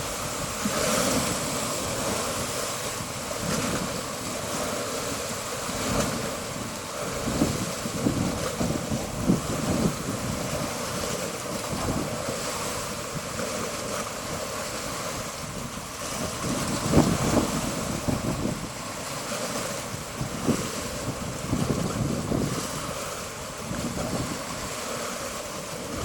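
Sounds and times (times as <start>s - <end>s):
sea waves washing onto beach: 0.0s - 26.0s
wind buffeting microphone: 0.0s - 26.0s.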